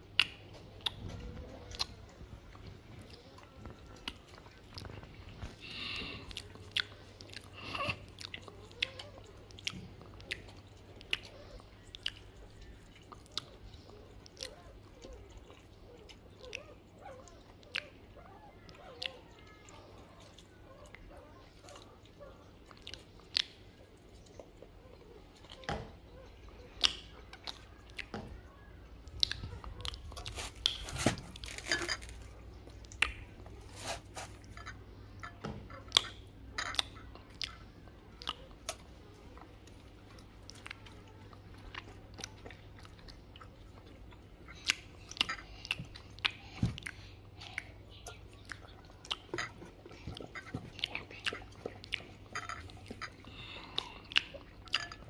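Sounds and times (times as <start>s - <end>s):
close chewing with crunches: 0.0s - 55.0s.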